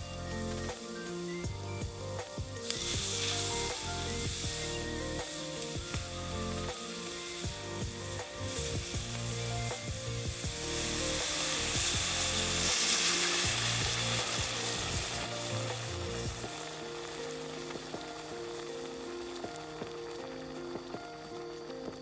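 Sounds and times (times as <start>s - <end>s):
background music: 0.0s - 22.0s
food sizzling in a pan: 0.0s - 22.0s.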